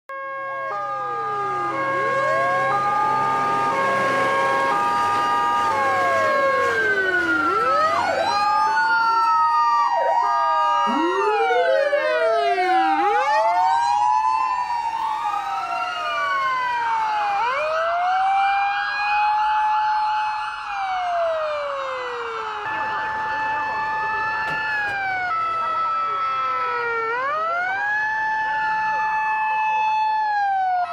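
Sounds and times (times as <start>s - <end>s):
rising and falling siren wails: 0.1s - 30.9s
two-tone hi-lo siren: 0.1s - 30.9s
fast warbling siren yelp: 0.3s - 19.4s, 22.5s - 30.9s.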